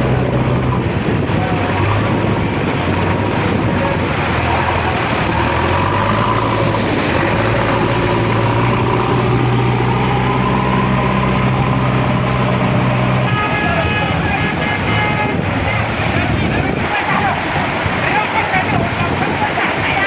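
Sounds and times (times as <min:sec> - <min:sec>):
heavy engine running: 0:00.0 - 0:18.0
floodwater rushing: 0:00.0 - 0:20.0.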